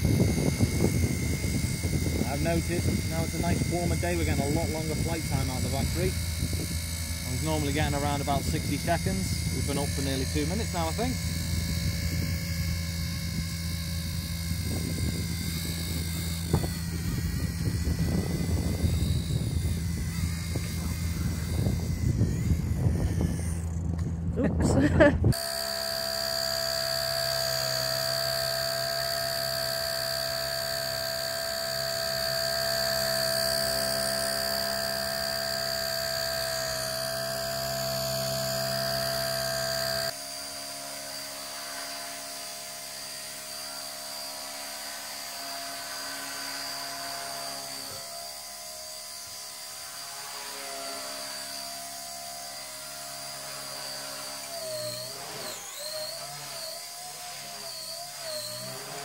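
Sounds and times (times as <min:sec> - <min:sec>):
rc helicopter whine: 0:00.0 - 0:59.0.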